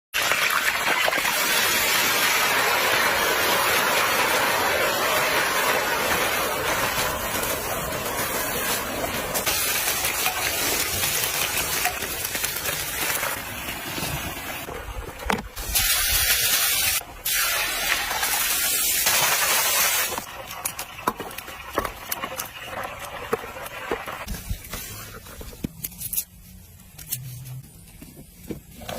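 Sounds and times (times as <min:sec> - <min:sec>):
food sizzling in hot oil: 0:00.2 - 0:14.7, 0:15.6 - 0:24.3.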